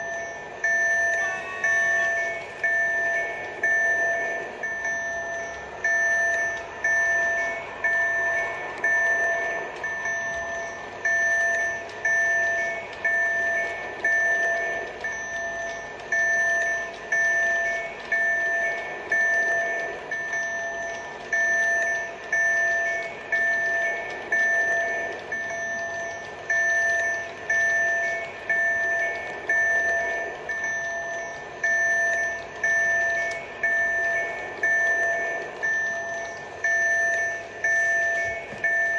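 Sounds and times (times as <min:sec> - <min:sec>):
level-crossing warning bell ringing: 0:00.0 - 0:38.9.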